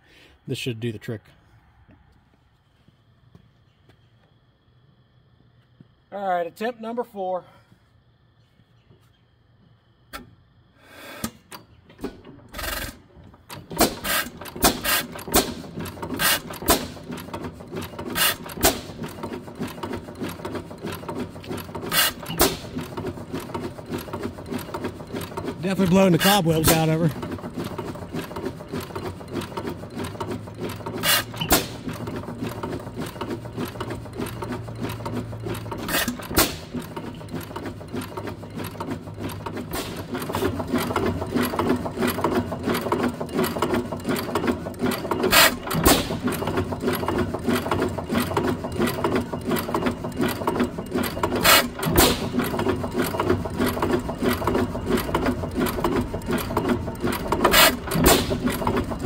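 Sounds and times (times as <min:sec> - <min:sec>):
engine firing stroke: 0:11.2 - 0:59.0
engine valve gear clatter: 0:11.4 - 0:59.0.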